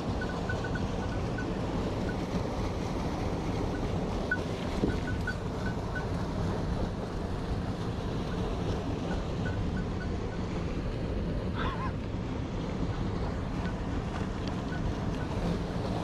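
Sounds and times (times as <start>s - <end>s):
stream water rushing over rocks: 0.0s - 16.0s.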